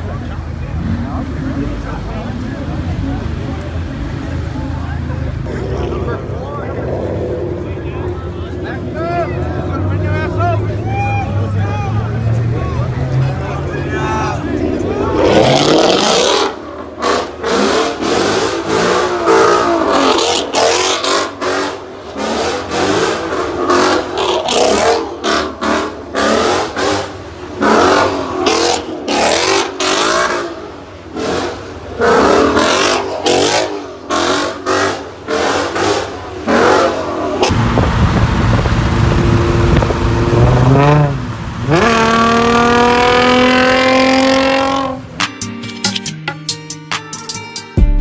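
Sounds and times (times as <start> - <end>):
car engines revving hard: 0.0 - 45.3.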